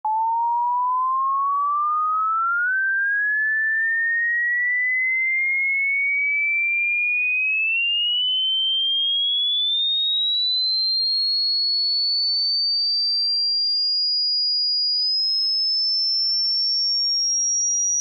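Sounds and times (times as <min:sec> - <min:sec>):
sine tone sweeping upward: 0:00.0 - 0:18.0.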